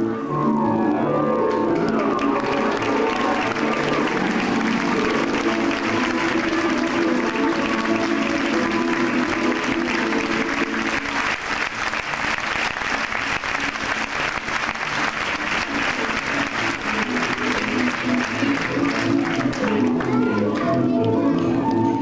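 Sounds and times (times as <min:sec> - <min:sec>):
background music: 0:00.0 - 0:22.0
audience applauding: 0:01.1 - 0:20.8.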